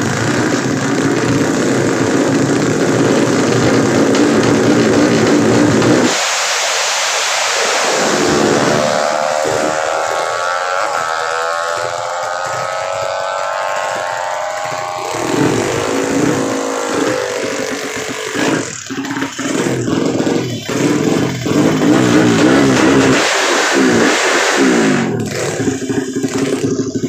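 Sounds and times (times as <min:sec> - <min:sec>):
lower-pitched engine note: 0:00.0 - 0:27.0
motorcycle engine at high revs: 0:00.0 - 0:27.0.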